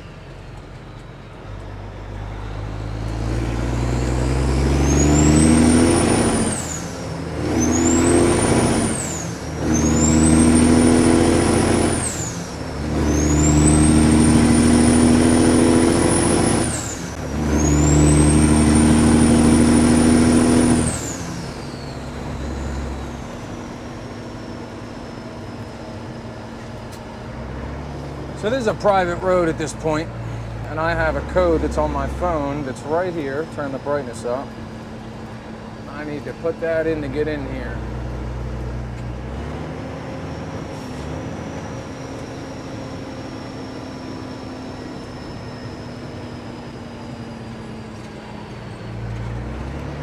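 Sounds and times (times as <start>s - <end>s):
diesel truck engine accelerating: 0.0s - 50.0s
high engine whine: 0.0s - 50.0s.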